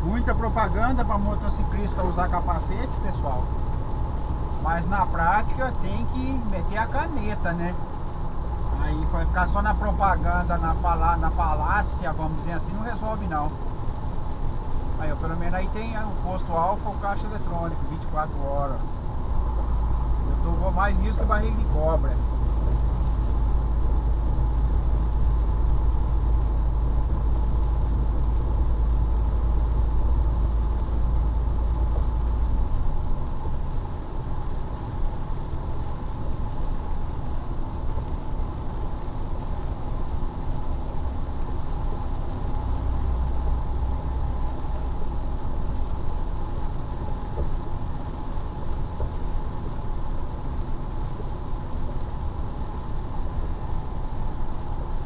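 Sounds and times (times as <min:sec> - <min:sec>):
faint hum: 0:00.0 - 0:55.0
vehicle engine rumble: 0:00.0 - 0:55.0.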